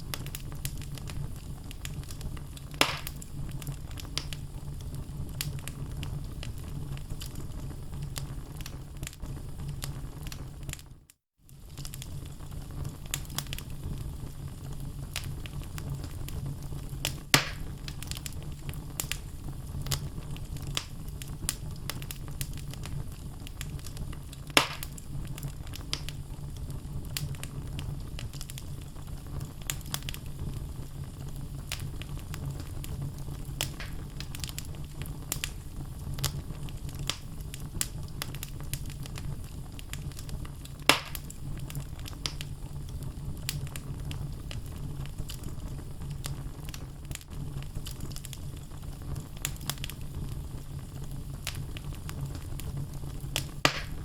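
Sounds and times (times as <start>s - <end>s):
loud pops from fire: 0.0s - 54.0s
wood fire crackling: 0.0s - 54.0s.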